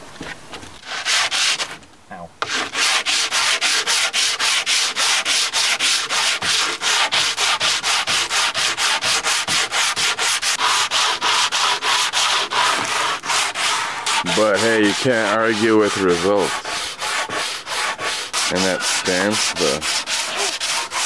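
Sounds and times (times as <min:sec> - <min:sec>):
sandpaper rubbing on wood: 0:00.8 - 0:01.8, 0:02.4 - 0:21.0.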